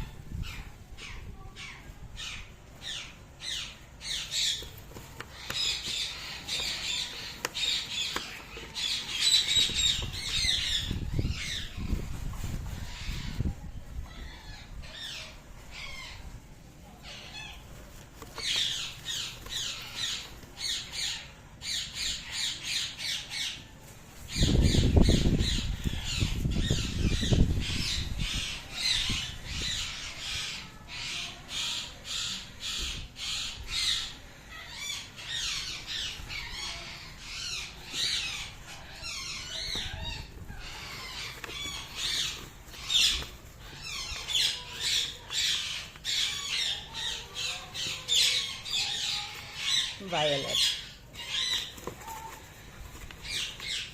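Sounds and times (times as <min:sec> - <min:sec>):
parrots calling: 0:00.0 - 0:12.1, 0:17.0 - 0:53.9.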